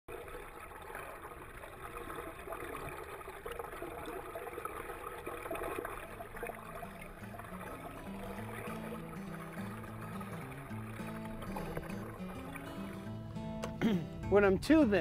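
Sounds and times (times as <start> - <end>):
faint crackles: 0.1 - 13.9
water rushing and gurgling: 0.1 - 15.0.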